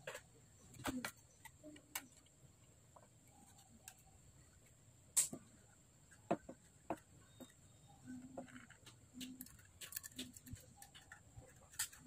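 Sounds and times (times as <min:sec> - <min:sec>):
small parts clicking and knocking: 0:00.0 - 0:12.0.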